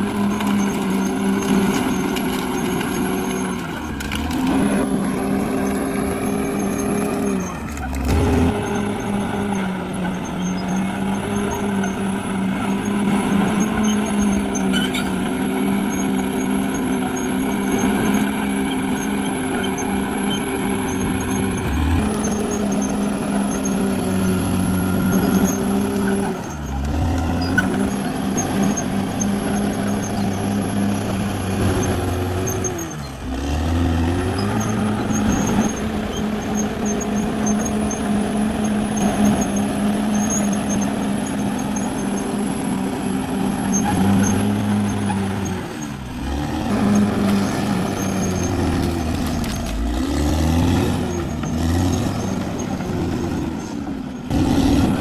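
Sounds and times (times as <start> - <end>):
bulldozer engine running: 0.0 - 55.0.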